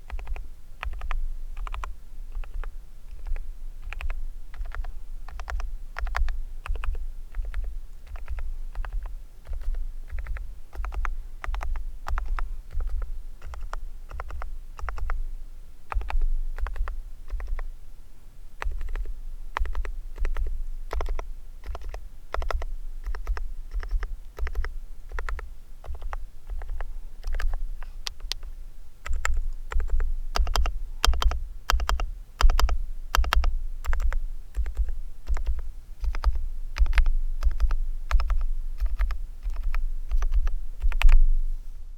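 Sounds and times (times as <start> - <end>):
keyboard typing: 0.1 - 15.2, 15.9 - 17.7, 18.6 - 41.3.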